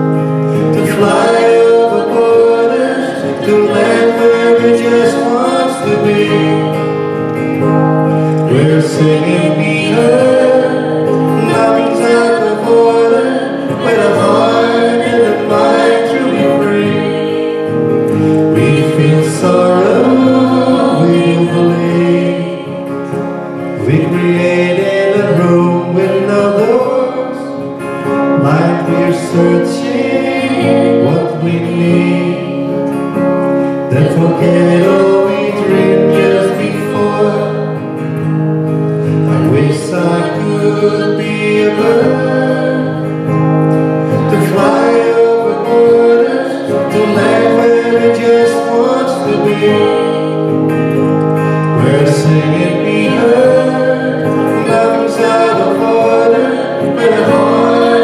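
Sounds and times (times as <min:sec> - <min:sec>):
strummed acoustic guitars: 0:00.0 - 0:58.0
man and woman singing: 0:00.6 - 0:07.2, 0:08.3 - 0:38.0, 0:39.1 - 0:50.7, 0:51.6 - 0:58.0.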